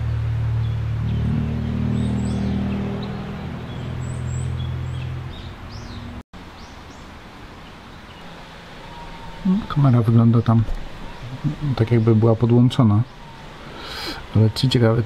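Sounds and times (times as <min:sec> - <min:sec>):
outdoor ambience: 0:00.0 - 0:15.0
small birds chirping: 0:00.0 - 0:15.0.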